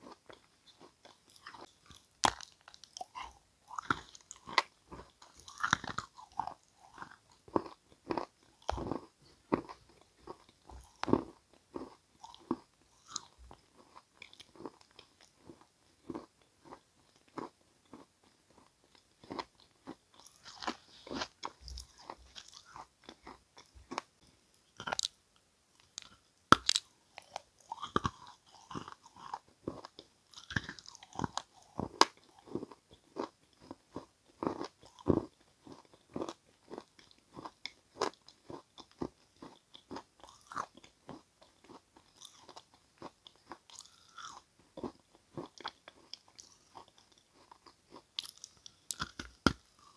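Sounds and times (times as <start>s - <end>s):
person chewing crunchy clay: 0.0s - 49.9s.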